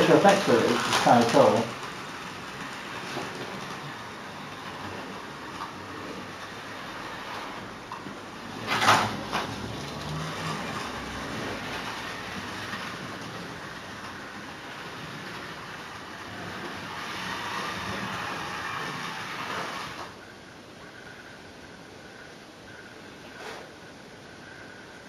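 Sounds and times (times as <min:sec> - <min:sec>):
model locomotive rumbling on track: 0:00.0 - 0:20.2
sharp clatter: 0:00.0 - 0:20.2.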